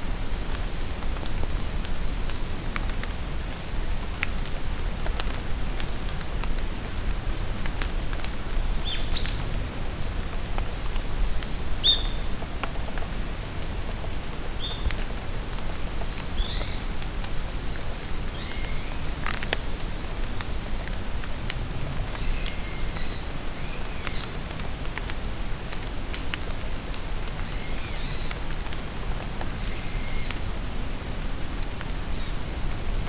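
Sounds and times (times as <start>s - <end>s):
rain pattering in forest: 0.0s - 33.0s.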